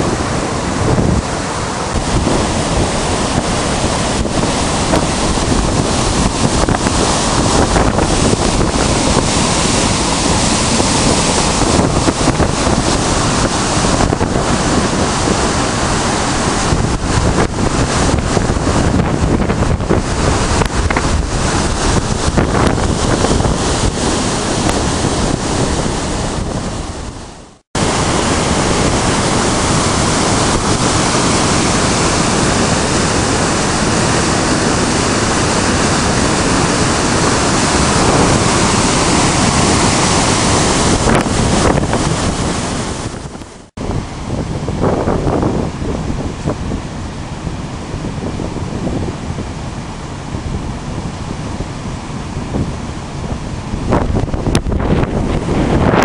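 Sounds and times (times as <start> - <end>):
river rushing: 0.0 - 56.0
wind buffeting microphone: 0.0 - 56.0.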